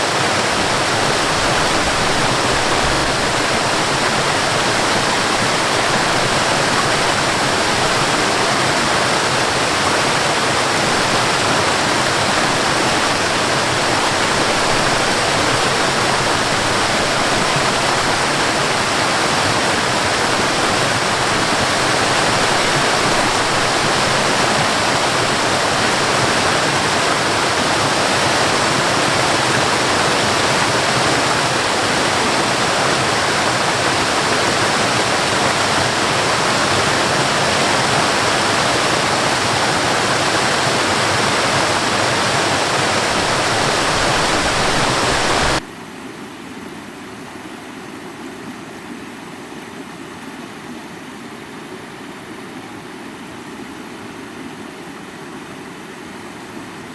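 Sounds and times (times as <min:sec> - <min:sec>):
waterfall rushing: 0:00.0 - 0:45.6.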